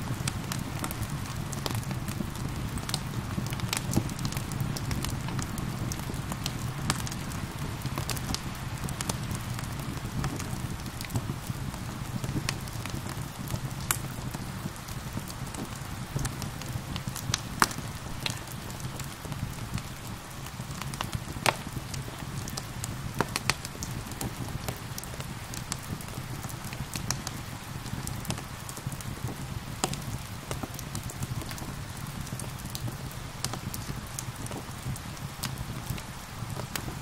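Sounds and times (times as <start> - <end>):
rain hissing: 0.0 - 37.0
wood fire crackling and popping: 0.0 - 37.0.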